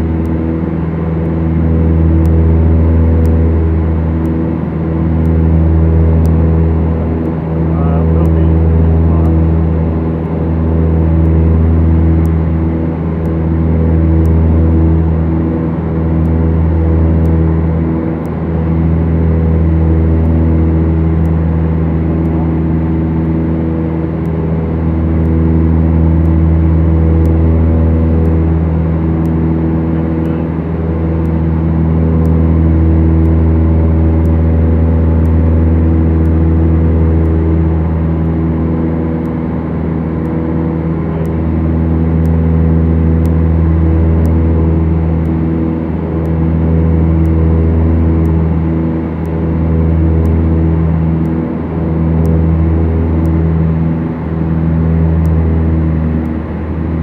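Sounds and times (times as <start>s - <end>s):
aircraft engines droning: 0.0s - 57.0s.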